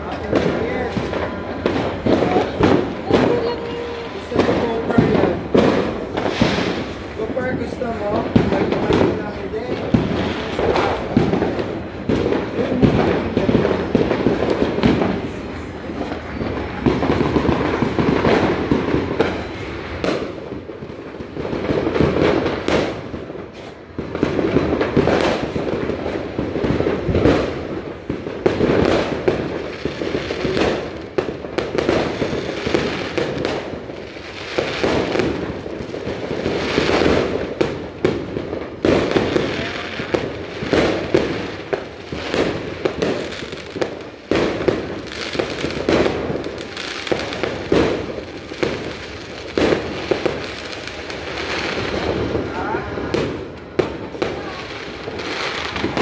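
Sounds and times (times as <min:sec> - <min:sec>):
fireworks and firecrackers banging: 0:00.0 - 0:56.0.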